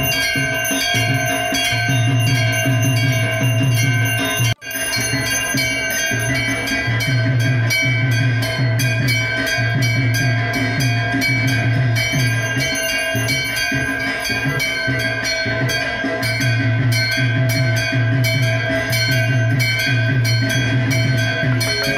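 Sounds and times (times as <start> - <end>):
bells ringing quickly: 0.0 - 21.9
continuous drum beat: 0.0 - 21.9.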